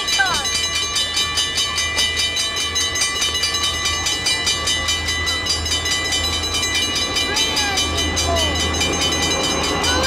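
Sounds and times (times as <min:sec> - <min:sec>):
crossing bell ringing: 0:00.0 - 0:10.0.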